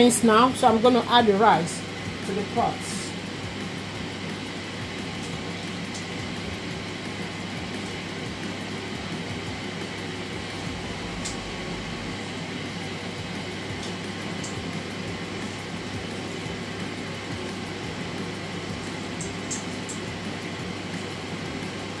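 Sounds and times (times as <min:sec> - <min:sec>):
air fryer fan whirring: 0:00.0 - 0:22.0.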